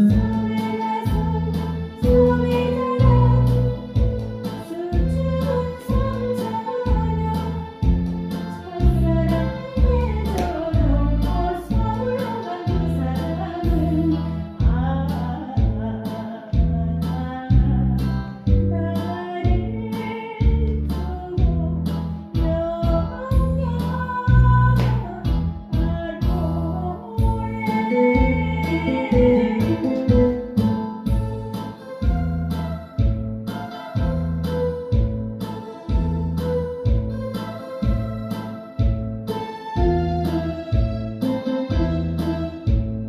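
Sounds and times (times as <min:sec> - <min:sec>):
person singing: 0:00.0 - 0:07.7, 0:08.5 - 0:40.5
backing music with bass beat: 0:00.0 - 0:43.0.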